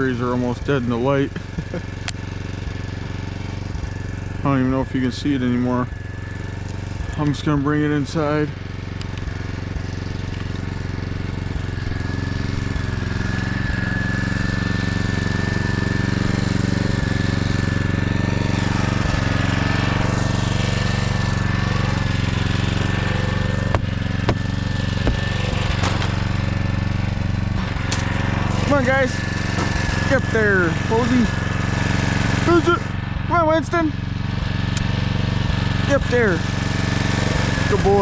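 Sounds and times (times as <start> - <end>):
thin steady whine: 0.0 - 35.2
engine running steadily: 0.0 - 38.0.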